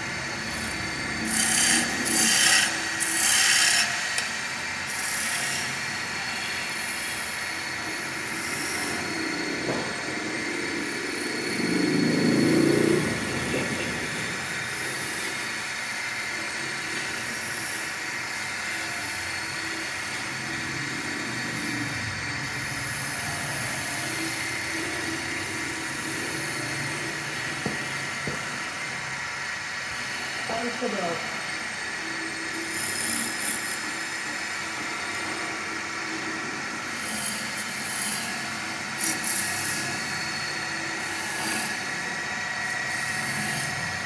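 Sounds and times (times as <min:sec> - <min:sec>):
wood lathe humming: 0:00.0 - 0:44.0.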